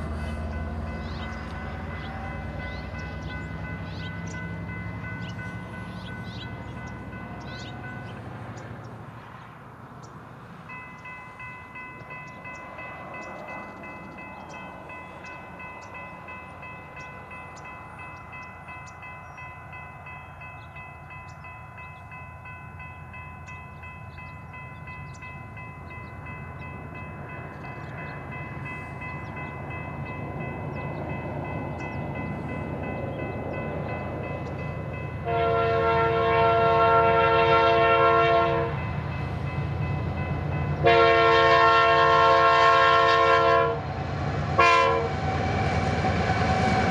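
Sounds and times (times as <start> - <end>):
crossing bell ringing: 0.0 - 9.0, 10.1 - 45.1
train rumble: 0.0 - 46.9.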